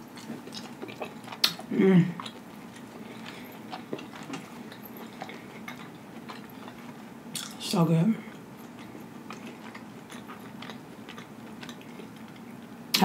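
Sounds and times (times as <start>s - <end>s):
chewing mouth clicks: 0.1s - 7.6s, 8.3s - 12.7s.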